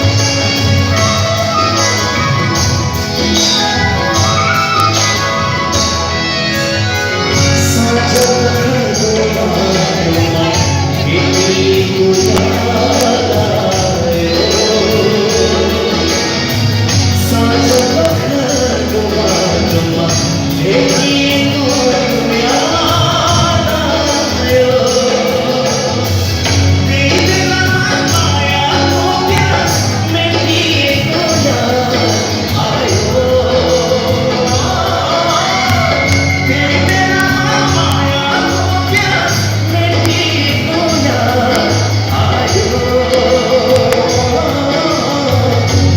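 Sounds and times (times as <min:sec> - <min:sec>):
live band music: 0:00.0 - 0:45.9
man singing: 0:00.0 - 0:45.9.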